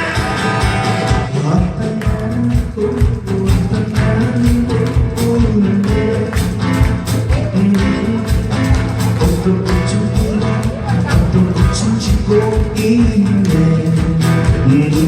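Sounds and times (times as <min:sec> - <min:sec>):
guitar: 0:00.0 - 0:15.0
person singing a song live: 0:00.0 - 0:15.0
steady drum beat: 0:00.0 - 0:15.0.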